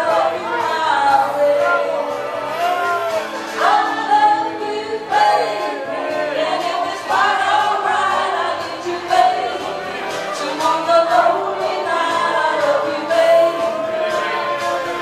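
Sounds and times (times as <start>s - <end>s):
crowd singing in unison: 0.0s - 15.0s
person singing into microphone: 0.0s - 15.0s.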